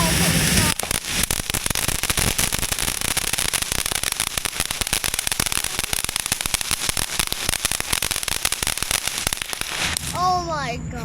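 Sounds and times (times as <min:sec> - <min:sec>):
firework crackling: 0:00.0 - 0:10.6.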